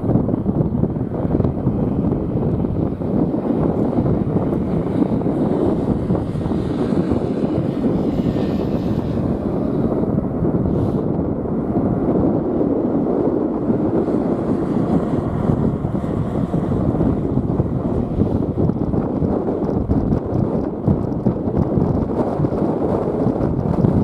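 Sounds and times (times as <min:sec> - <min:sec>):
jet engines at takeoff thrust: 0:00.0 - 0:24.0
wind buffeting microphone: 0:00.0 - 0:24.0.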